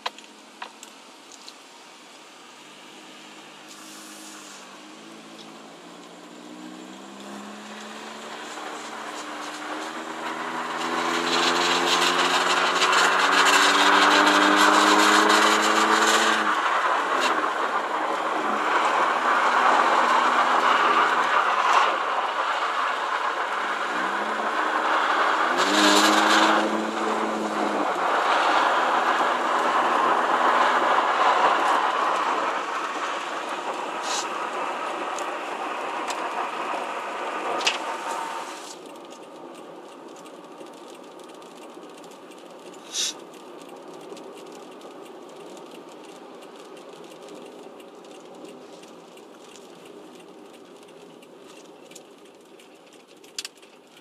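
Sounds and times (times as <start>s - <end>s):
car engine accelerating: 0.0s - 54.0s
road and cabin noise: 0.0s - 54.0s.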